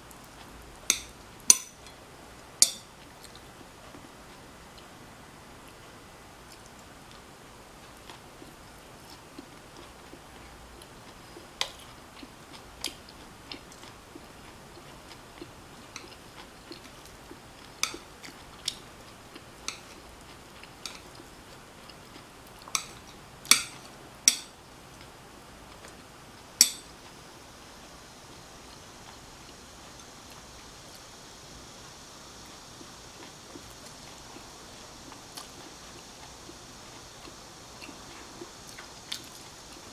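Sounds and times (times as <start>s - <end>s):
chewing crispy food: 0.0s - 39.9s.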